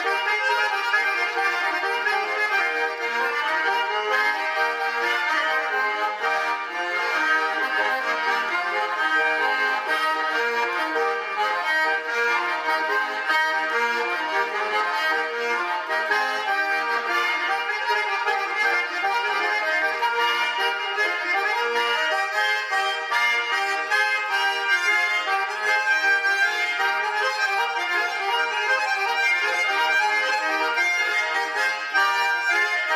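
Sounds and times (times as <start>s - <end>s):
button accordion playing dance tune: 0.0s - 32.9s.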